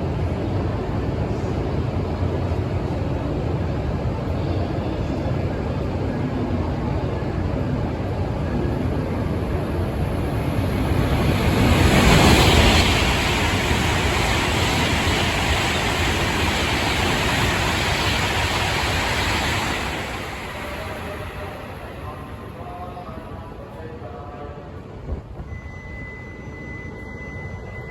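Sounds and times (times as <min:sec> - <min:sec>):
high-speed train passing: 0:00.0 - 0:27.9.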